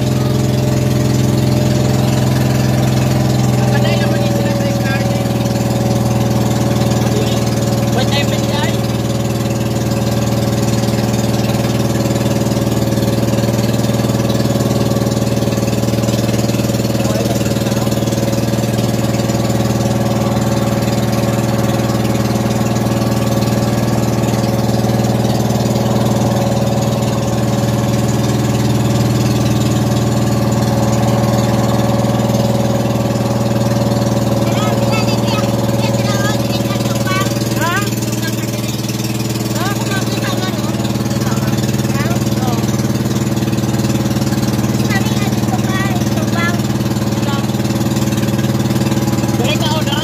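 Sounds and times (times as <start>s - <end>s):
boat engine droning: 0.0s - 50.0s.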